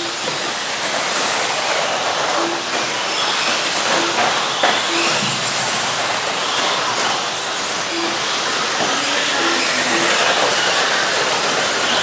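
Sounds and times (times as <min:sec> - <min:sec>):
electric model trucks racing: 0:00.0 - 0:12.0.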